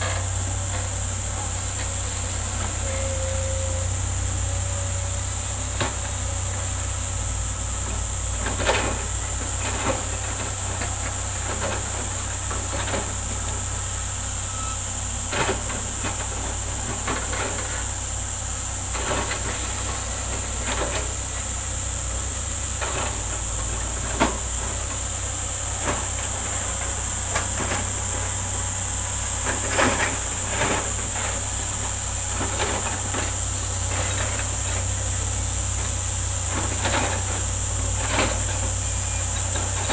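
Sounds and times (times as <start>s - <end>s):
diesel engine drone: 0.0s - 39.9s
excavator clanks and knocks: 0.0s - 39.9s.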